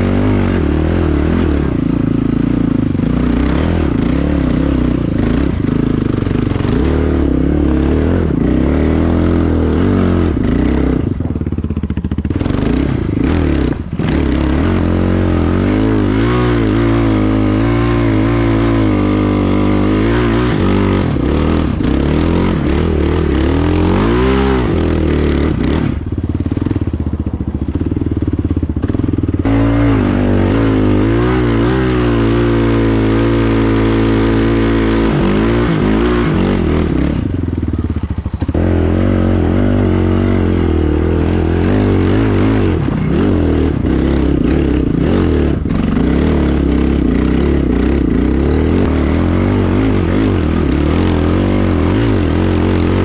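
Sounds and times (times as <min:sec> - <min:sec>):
quad bike engine revving: 0:00.0 - 0:53.0.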